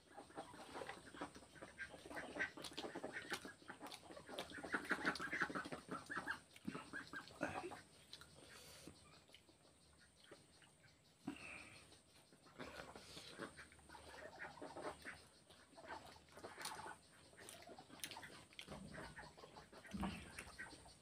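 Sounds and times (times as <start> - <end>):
chewing and lip-smacking: 2.1 - 21.0.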